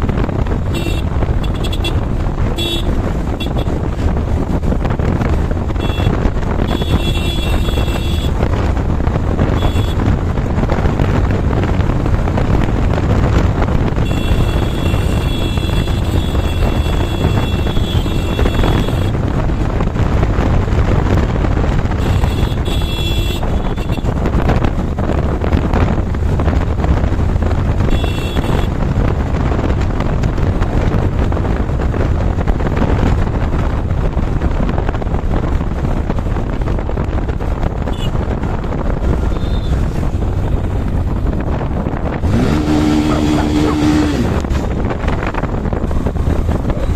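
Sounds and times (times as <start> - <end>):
motorcycle engine: 0.0 - 46.9
wind buffeting microphone: 0.0 - 46.9.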